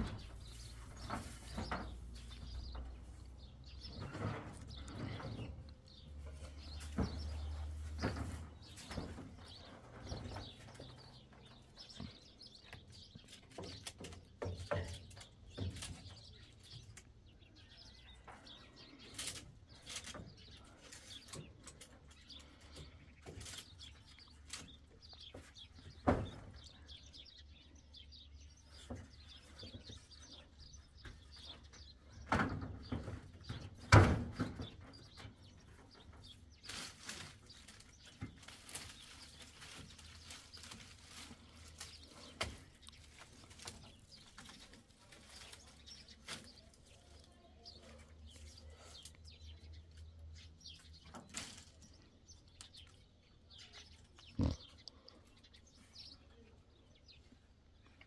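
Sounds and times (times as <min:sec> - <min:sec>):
wood and sticks clattering: 0:00.0 - 0:17.5, 0:18.3 - 0:26.6, 0:28.7 - 0:53.0
small birds chirping: 0:00.0 - 0:58.0.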